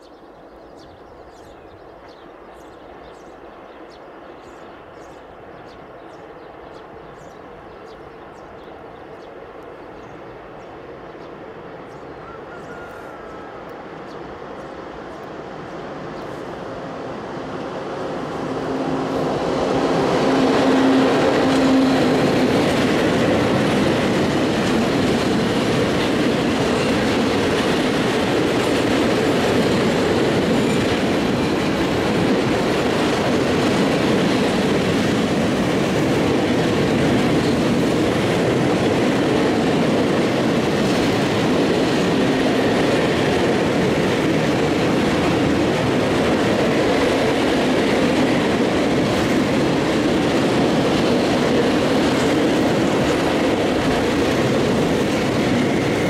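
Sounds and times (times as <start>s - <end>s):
electric locomotive passing: 0.0s - 56.0s
train wheels rolling on rails: 0.9s - 56.0s.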